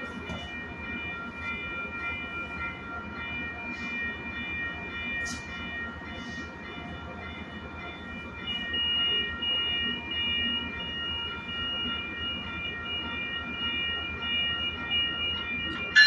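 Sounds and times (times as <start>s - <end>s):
train equipment low rumble: 0.0s - 16.0s.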